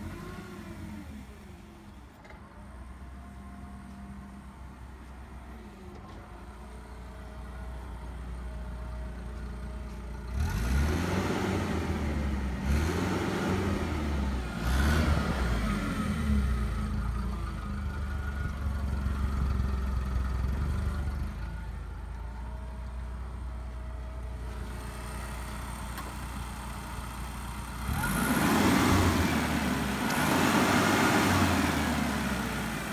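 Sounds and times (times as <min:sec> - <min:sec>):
forklift engine running and revving: 0:00.0 - 0:32.9.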